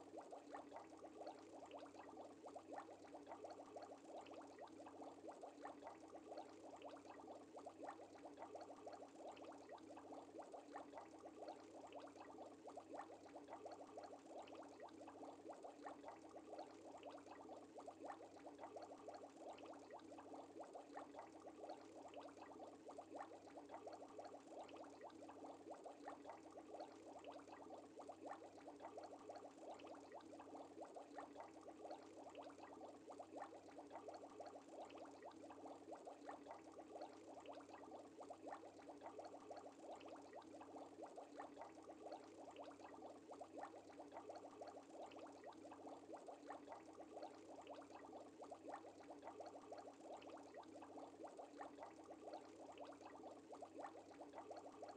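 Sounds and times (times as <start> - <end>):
aquarium air bubbles: 0.0 - 54.9.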